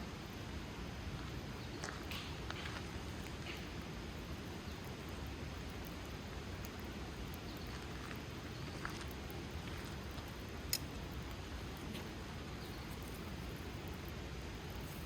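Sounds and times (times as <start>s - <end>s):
campfire burning with low rush: 0.0s - 15.0s
fire crackles and pops: 0.0s - 15.0s.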